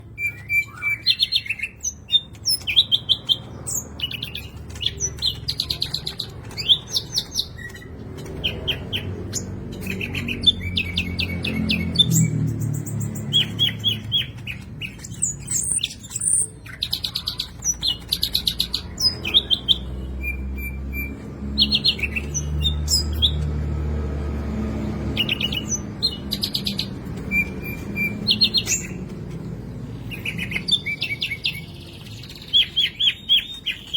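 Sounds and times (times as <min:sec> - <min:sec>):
bird singing rapid trills: 0:00.0 - 0:33.9.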